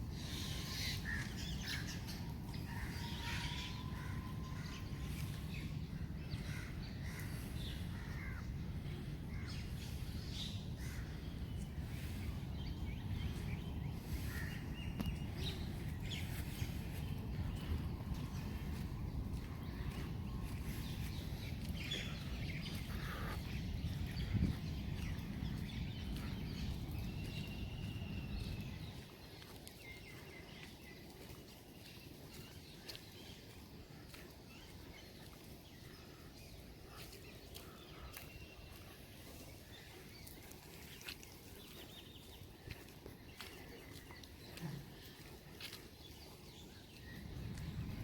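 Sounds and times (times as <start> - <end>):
birds chirping: 9.4 - 48.0.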